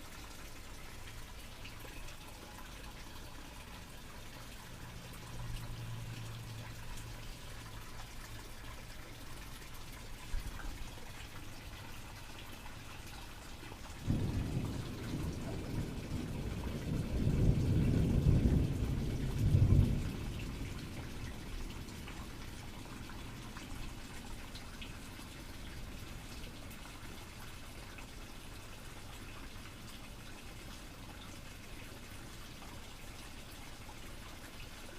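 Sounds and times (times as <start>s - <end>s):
faint steady hiss: 0.0s - 34.9s.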